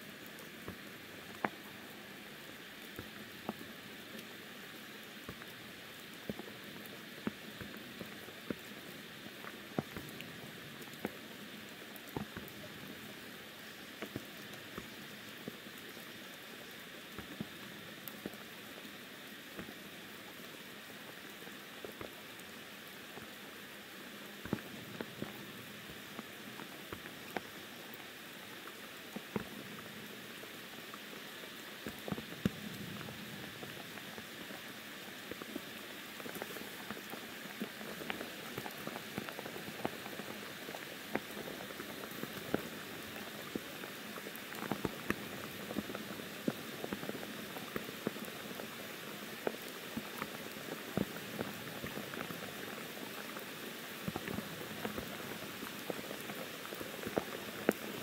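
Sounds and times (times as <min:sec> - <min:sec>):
rain hissing on foliage: 0:00.0 - 0:58.0.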